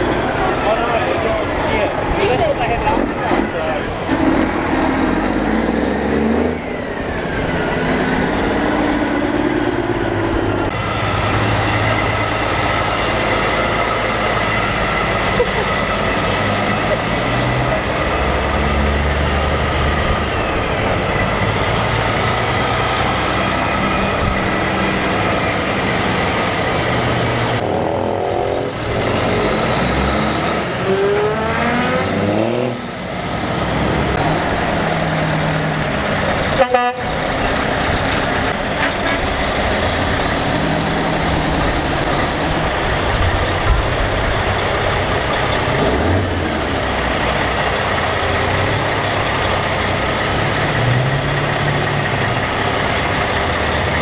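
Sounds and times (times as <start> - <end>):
truck diesel engines passing: 0.0 - 54.0.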